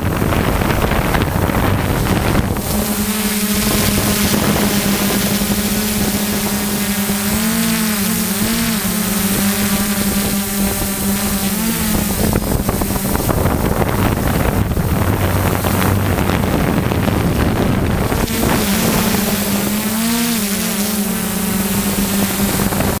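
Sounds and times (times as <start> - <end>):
drone propellers buzzing: 0.0 - 23.0
wind on microphone: 0.0 - 23.0.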